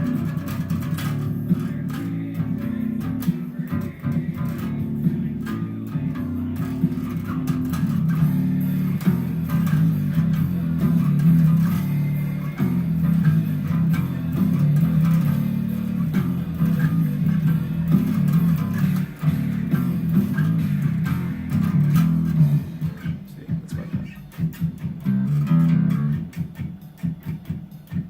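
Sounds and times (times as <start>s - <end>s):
bass guitar plucked notes: 0.0s - 28.0s.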